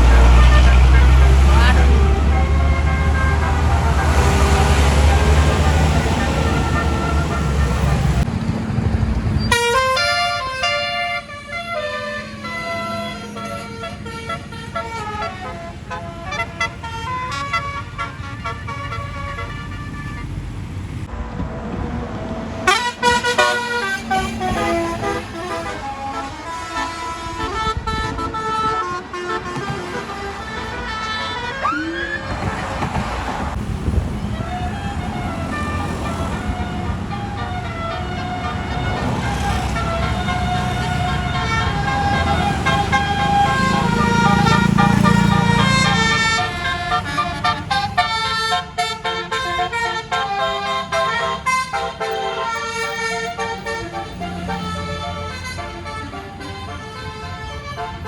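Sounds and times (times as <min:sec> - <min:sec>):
multi-tone bus air horn melody: 0:00.0 - 0:08.3, 0:09.4 - 0:20.6, 0:22.0 - 0:58.0
low road rumble: 0:00.0 - 0:58.0.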